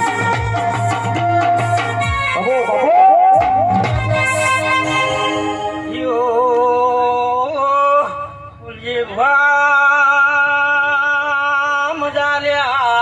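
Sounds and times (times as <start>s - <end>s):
man singing long held notes: 0.0s - 13.0s.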